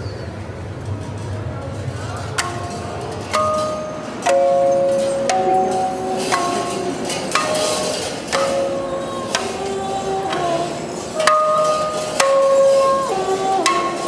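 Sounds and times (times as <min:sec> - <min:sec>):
glass bottles struck ringing: 0:02.4 - 0:14.0.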